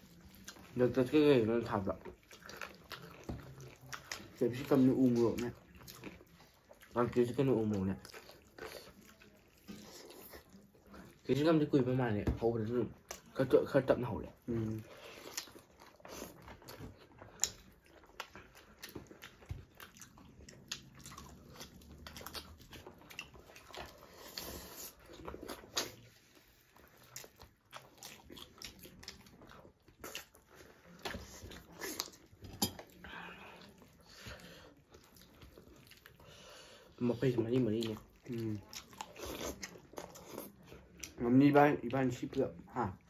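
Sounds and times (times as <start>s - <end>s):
chewing and biting mouth sounds: 0.0s - 43.0s.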